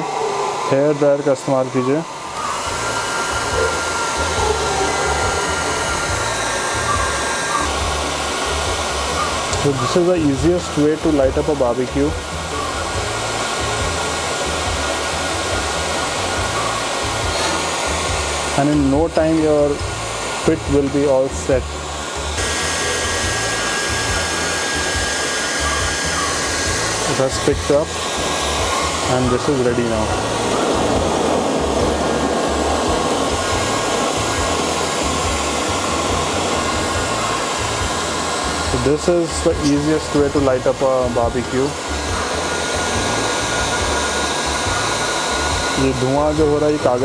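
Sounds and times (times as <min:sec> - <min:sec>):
hair dryer blowing air: 0:00.0 - 0:47.0.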